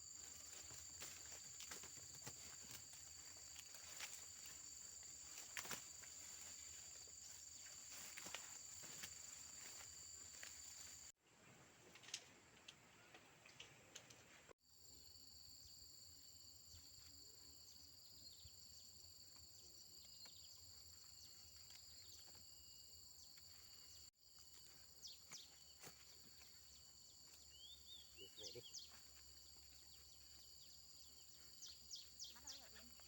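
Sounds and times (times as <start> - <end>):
insect chorus drone: 0.0 - 11.1, 14.6 - 33.0.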